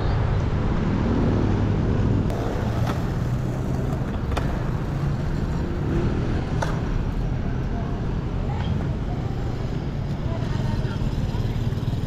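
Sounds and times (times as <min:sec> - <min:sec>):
cars going by: 0:00.0 - 0:12.0.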